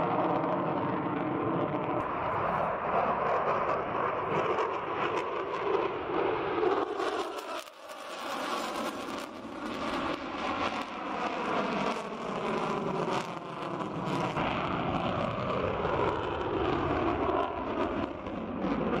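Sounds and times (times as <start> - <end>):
fighter jet engines roaring: 0.0 - 19.0.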